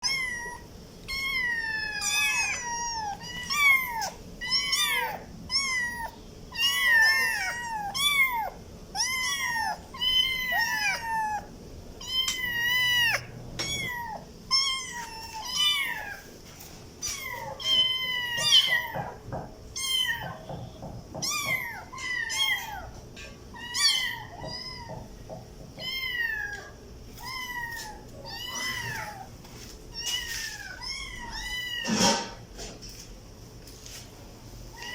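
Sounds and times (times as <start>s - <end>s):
kittens meowing: 0.0s - 16.3s, 17.0s - 19.2s, 19.8s - 20.5s, 21.2s - 23.0s, 23.6s - 25.1s, 25.8s - 29.3s, 29.9s - 32.1s.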